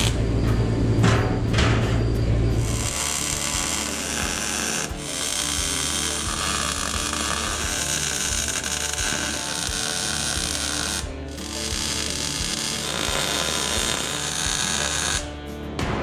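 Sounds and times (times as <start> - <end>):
welder crackling: 0.0 - 0.3, 2.6 - 15.4
background music: 0.0 - 16.0.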